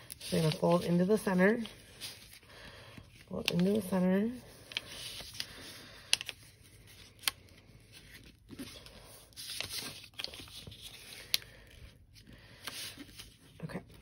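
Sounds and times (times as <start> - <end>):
paper rustling and scraping: 0.0 - 2.4, 3.0 - 14.0.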